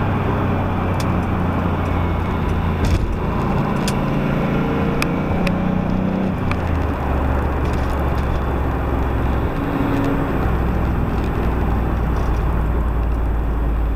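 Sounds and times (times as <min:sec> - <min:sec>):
car engine and road noise drone: 0:00.0 - 0:13.9.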